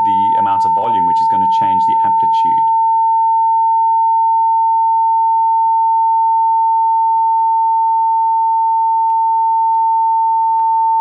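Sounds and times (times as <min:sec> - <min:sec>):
steady sine wave tone: 0:00.0 - 0:11.0.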